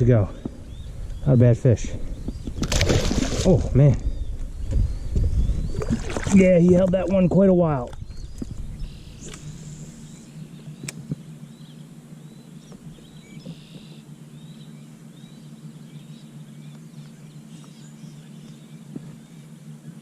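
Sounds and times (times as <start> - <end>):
low hum: 0.0 - 20.0
small birds chirping: 0.0 - 20.0.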